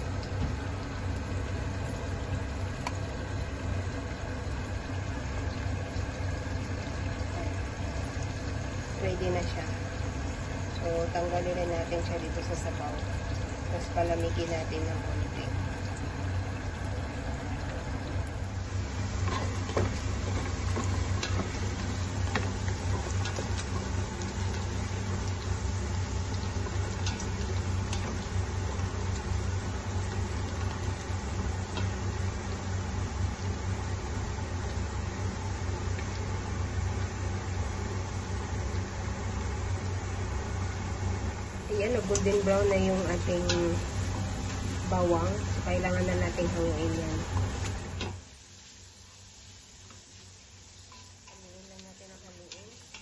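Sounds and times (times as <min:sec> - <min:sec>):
garlic sizzling in hot oil: 0:00.0 - 0:53.0
low mechanical hum: 0:00.0 - 0:53.0.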